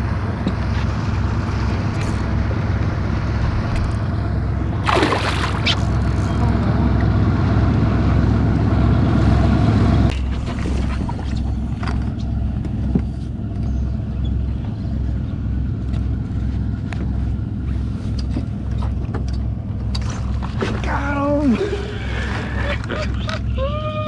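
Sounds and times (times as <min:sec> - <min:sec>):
outboard motor idling: 0:00.0 - 0:24.0.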